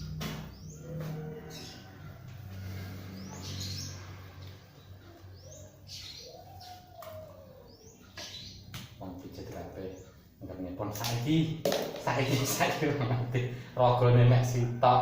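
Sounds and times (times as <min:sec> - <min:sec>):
bird chirping: 0:00.0 - 0:13.3.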